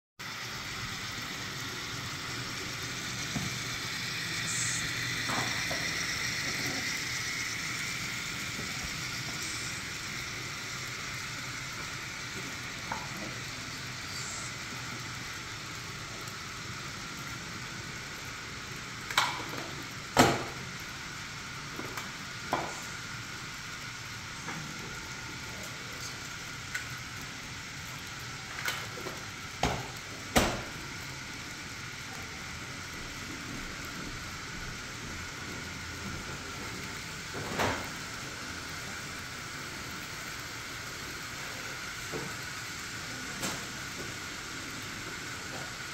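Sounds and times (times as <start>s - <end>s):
model train whirring: 0.2s - 45.9s.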